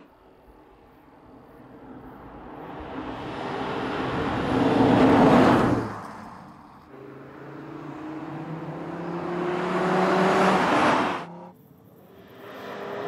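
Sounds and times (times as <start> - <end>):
car engine and exhaust passing: 0.8 - 13.0.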